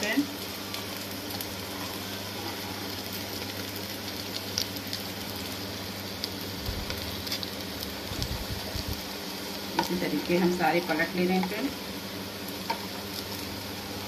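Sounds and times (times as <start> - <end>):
patties sizzling in oil: 0.0 - 14.0.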